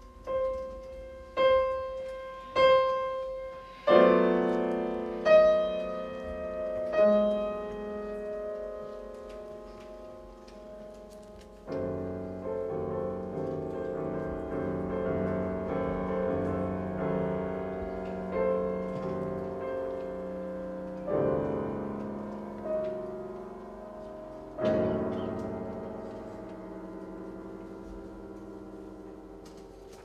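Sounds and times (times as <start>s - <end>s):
classical piano chords: 0.0s - 30.0s.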